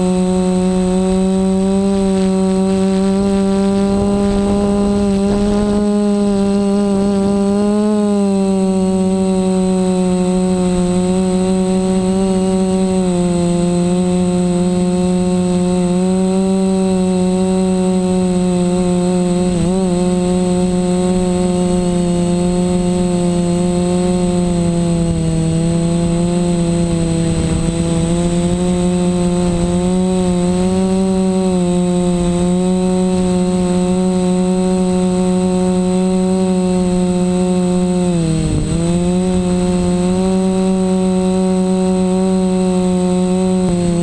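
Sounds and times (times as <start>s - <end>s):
drone motors whining: 0.0s - 44.0s.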